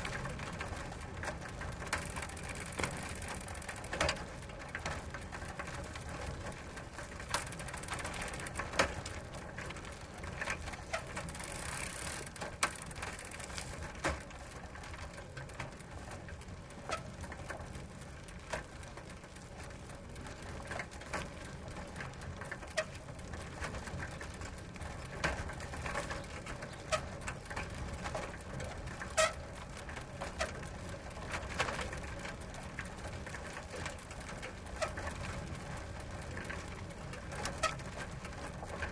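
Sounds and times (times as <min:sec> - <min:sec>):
bicycle chain clicking and rattling: 0:00.0 - 0:38.9
bicycle tyres rolling: 0:00.0 - 0:38.9.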